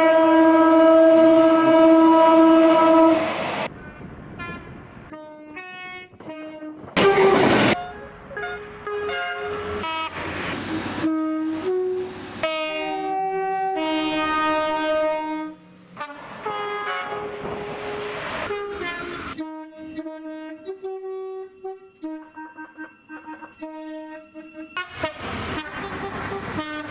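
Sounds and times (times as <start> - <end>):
rushing of passing trains: 0.0 - 21.6, 22.6 - 26.9
two-tone train horn: 0.0 - 26.9.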